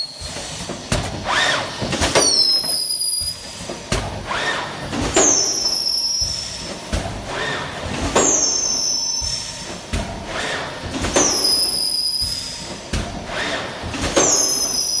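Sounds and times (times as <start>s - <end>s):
thermoforming machine knock: 0.2s - 14.6s.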